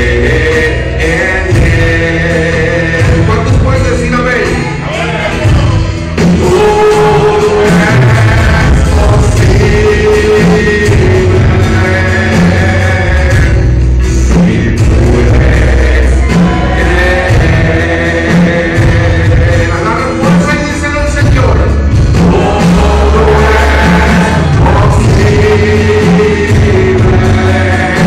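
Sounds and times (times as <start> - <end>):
people singing: 0.0 - 20.9, 22.0 - 28.0
guitar: 0.0 - 28.0
praise band playing: 0.0 - 28.0
steady beat: 0.0 - 28.0.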